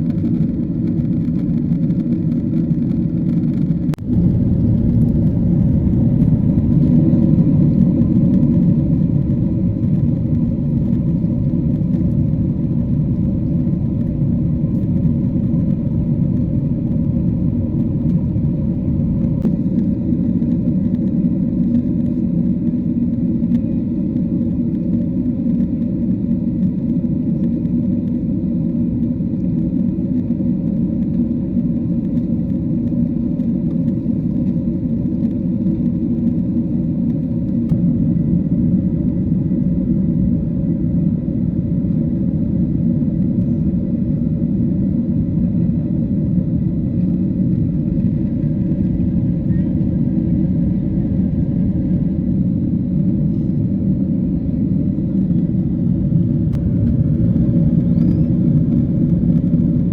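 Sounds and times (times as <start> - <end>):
airplane cabin engine and airflow rumble: 0.0 - 59.9.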